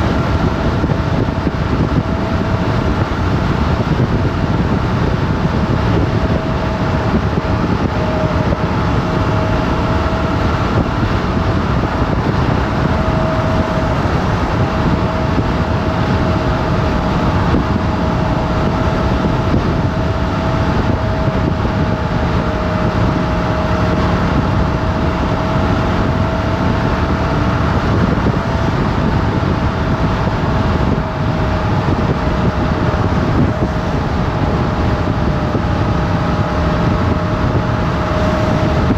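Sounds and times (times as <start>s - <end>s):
motorcycle engine running: 0.0s - 38.9s
wind rush on microphone: 0.0s - 38.9s.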